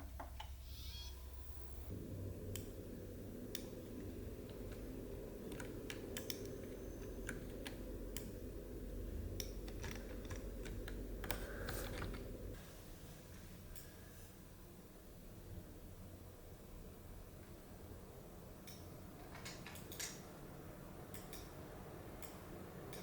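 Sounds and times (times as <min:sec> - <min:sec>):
low steady hum: 0:00.0 - 0:19.3.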